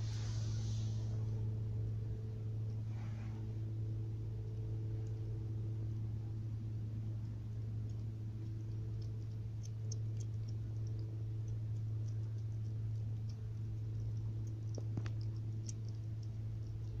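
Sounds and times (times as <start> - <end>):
steady low hum: 0.0 - 17.0
kittens chewing and lapping: 2.1 - 17.0.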